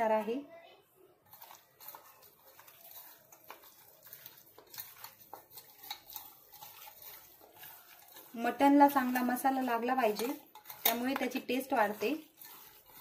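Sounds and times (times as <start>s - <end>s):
hands mixing meat in steel bowl: 1.2s - 13.0s.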